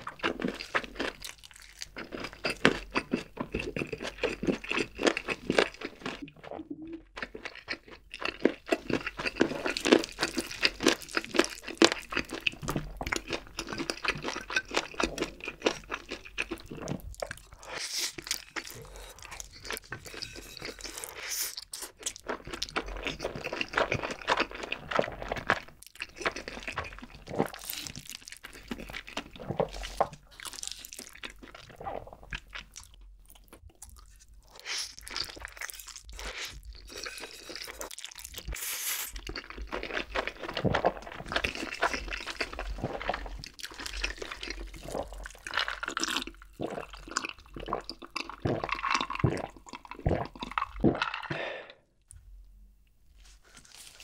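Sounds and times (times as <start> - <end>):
wet chewing and slurping: 0.0 - 51.8.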